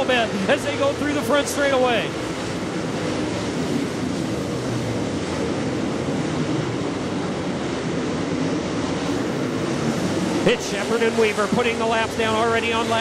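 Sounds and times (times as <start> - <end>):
race car engines running: 0.0 - 13.0.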